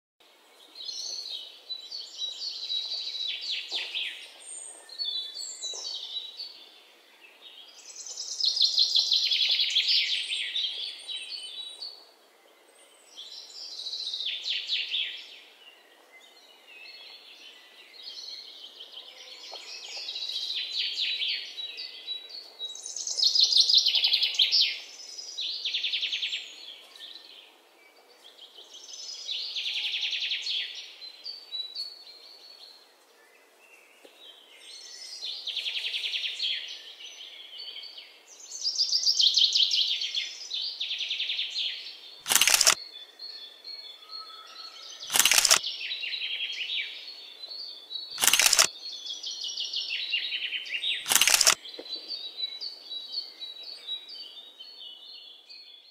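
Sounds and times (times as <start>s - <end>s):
songbird singing: 0.2s - 55.9s.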